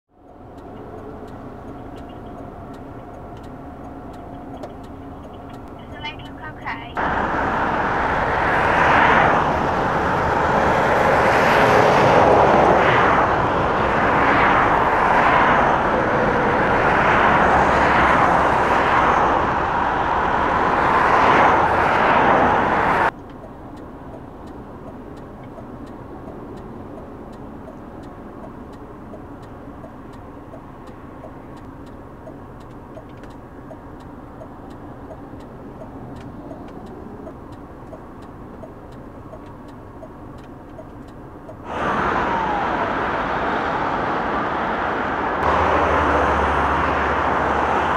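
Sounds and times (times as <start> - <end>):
distant traffic rumble: 0.1 - 47.9
heavy motorway traffic passing: 0.1 - 47.9.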